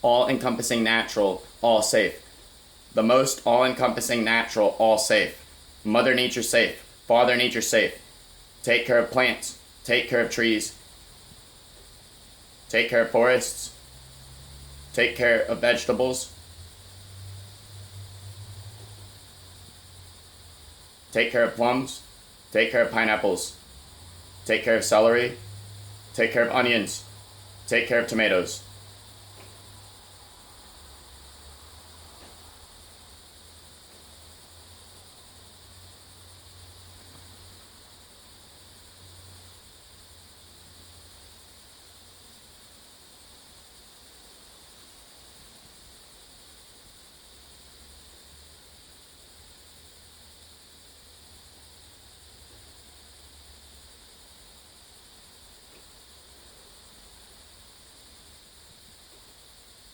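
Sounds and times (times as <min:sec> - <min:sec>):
faint low hum: 0:00.0 - 0:59.9
insect chorus trilling: 0:00.0 - 0:59.9.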